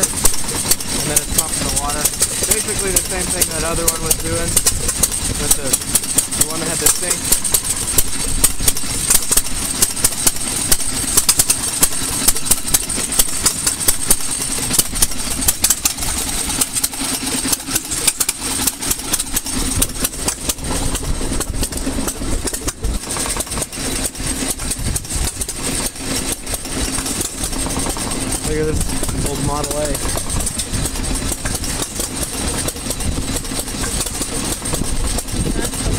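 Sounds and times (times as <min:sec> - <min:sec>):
stationary engines exhaust pops: 0:00.0 - 0:35.9.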